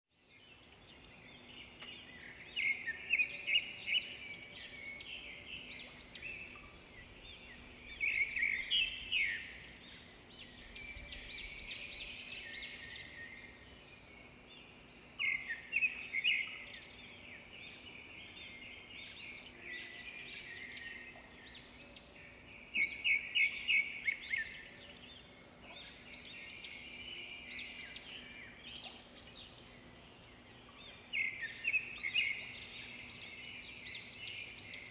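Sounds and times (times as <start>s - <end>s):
songbirds chirping and singing: 0.1s - 34.9s.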